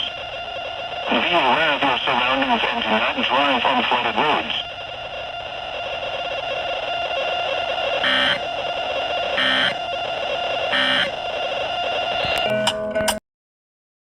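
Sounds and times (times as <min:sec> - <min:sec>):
digital data bursts: 0:00.0 - 0:12.5
steady electronic buzz: 0:00.0 - 0:12.5.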